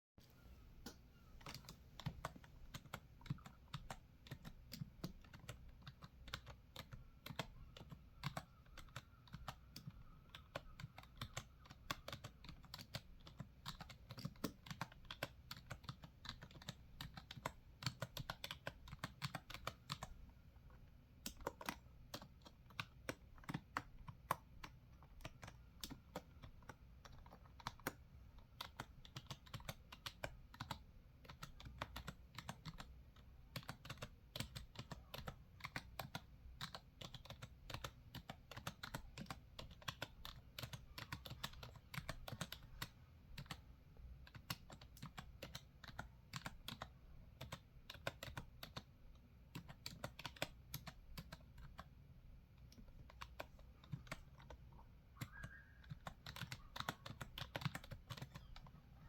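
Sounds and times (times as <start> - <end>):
typing on a keyboard: 1.4 - 58.8.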